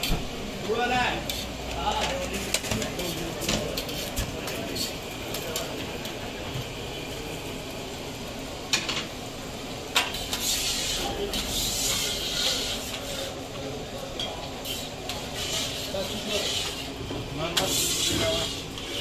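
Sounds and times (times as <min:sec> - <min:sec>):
flatbreads sizzling on a griddle: 0:00.0 - 0:19.0.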